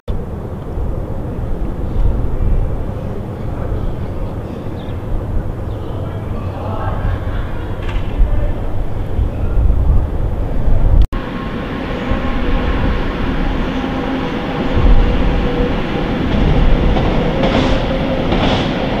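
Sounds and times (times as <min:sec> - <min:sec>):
train rolling rumble: 0:00.1 - 0:19.0.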